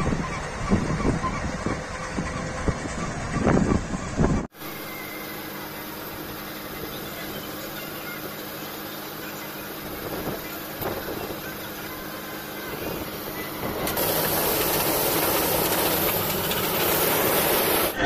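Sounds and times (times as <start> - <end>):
combine harvester engine hum: 0.0 - 18.0
loud steady rushing noise: 0.0 - 18.0.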